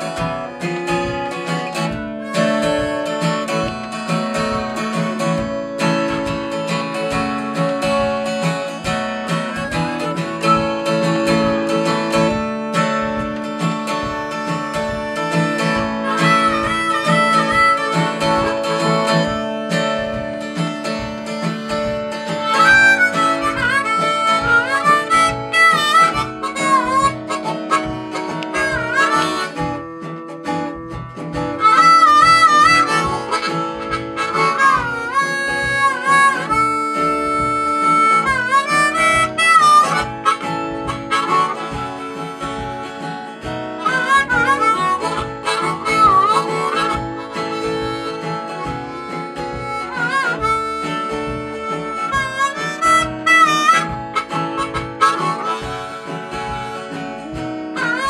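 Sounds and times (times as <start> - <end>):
acoustic guitar strummed: 0.0 - 58.0
harmonica melody: 0.0 - 58.0.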